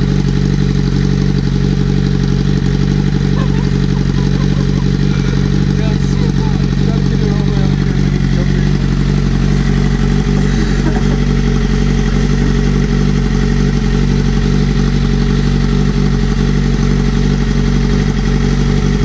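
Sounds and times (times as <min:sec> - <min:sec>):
motorcycle engine idling loudly: 0:00.0 - 0:19.0.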